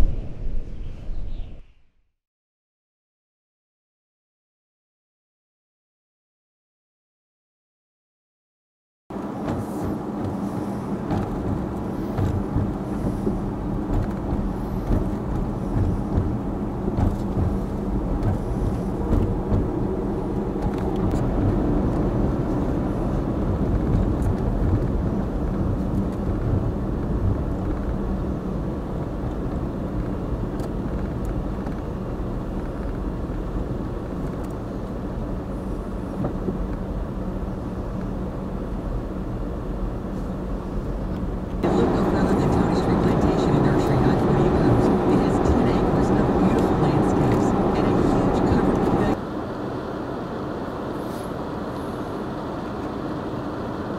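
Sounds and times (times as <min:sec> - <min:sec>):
vehicle engine running: 0:09.1 - 0:53.9.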